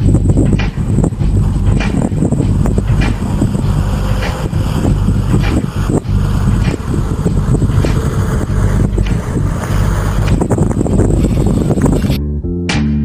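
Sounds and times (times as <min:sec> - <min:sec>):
off-road vehicle engine running: 0:00.0 - 0:12.2.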